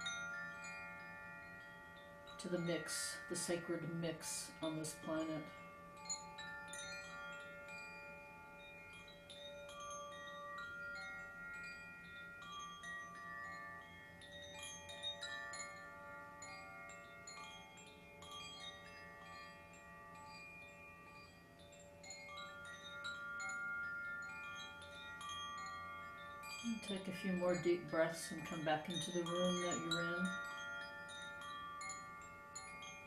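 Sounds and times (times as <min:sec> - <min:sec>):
tuned chimes ringing softly: 0:00.0 - 0:33.0.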